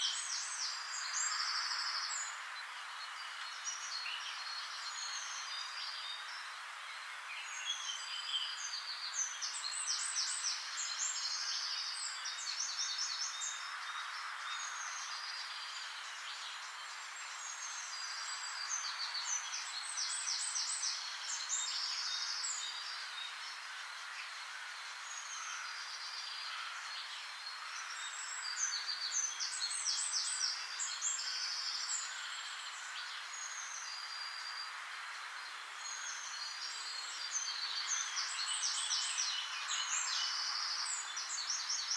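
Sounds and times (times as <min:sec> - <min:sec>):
background hiss: 0:00.0 - 0:41.9
songbird singing: 0:00.0 - 0:41.9.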